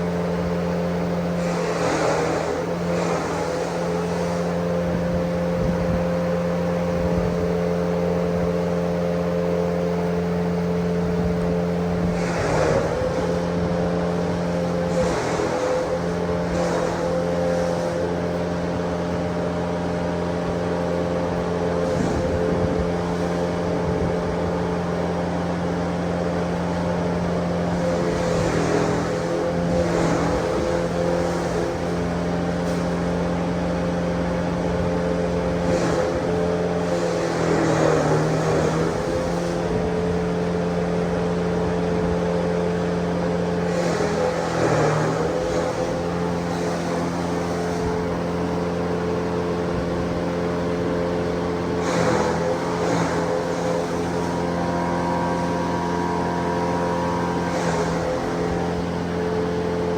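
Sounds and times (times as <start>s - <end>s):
grass grinding machine running: 0.0s - 59.9s.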